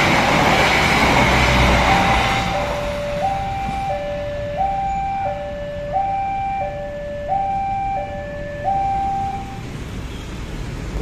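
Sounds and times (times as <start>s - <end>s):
two-tone crossing alarm: 0.0s - 9.7s
low rumble of traffic: 0.0s - 11.0s.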